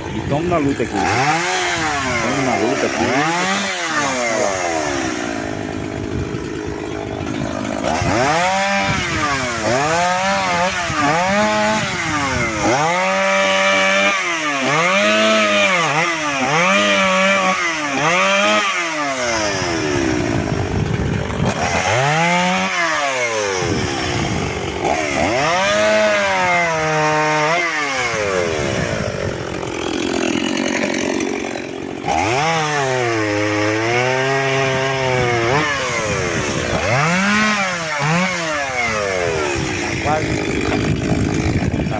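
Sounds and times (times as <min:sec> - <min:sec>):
chainsaw revving and cutting wood: 0:00.0 - 0:41.9.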